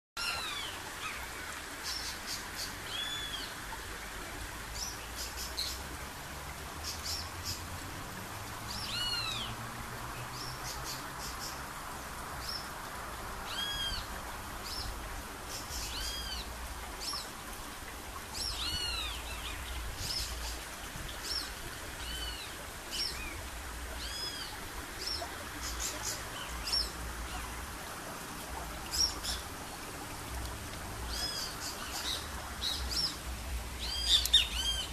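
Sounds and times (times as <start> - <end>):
background hiss: 0.2 - 34.9.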